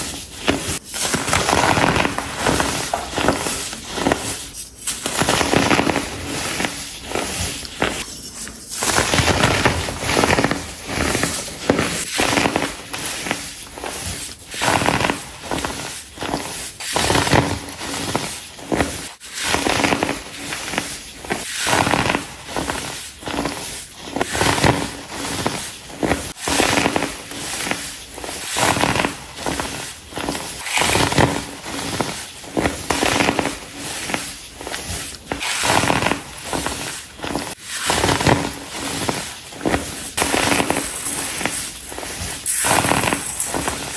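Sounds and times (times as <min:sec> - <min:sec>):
baking soda blocks crushed: 0:00.0 - 0:43.9.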